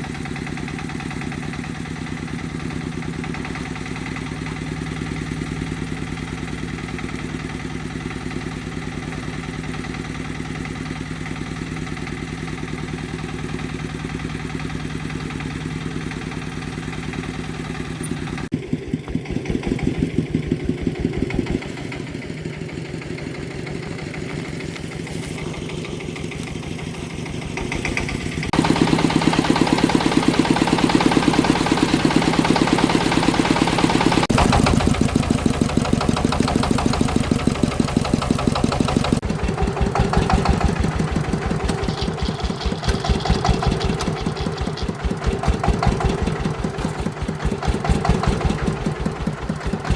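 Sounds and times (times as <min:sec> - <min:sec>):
farm vehicle engine idling: 0:00.0 - 0:49.9.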